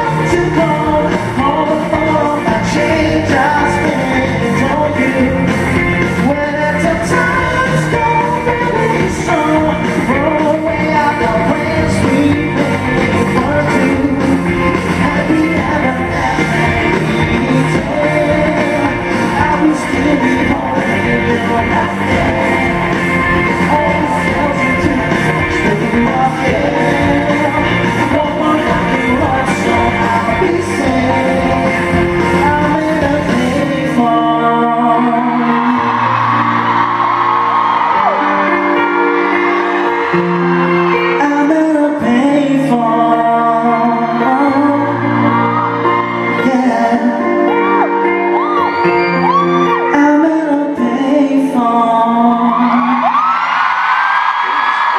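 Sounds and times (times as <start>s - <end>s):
person singing: 0.0s - 53.6s
live rock band playing: 0.0s - 54.9s.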